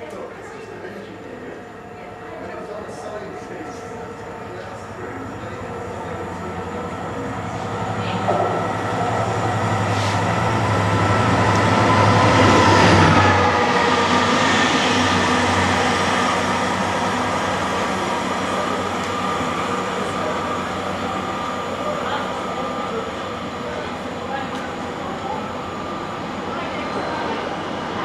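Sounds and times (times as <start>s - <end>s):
train passing: 0.3s - 28.0s.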